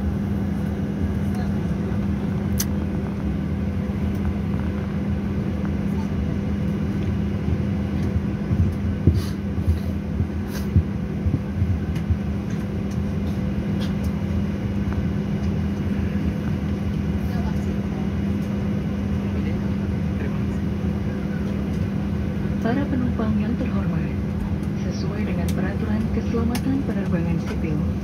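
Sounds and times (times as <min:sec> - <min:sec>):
aircraft cabin drone: 0:00.0 - 0:28.0
faint passenger voices: 0:00.3 - 0:28.0.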